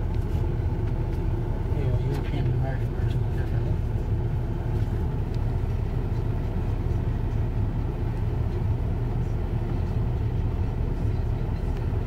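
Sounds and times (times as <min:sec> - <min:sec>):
car engine low drone: 0:00.0 - 0:12.0
road noise: 0:00.0 - 0:12.0.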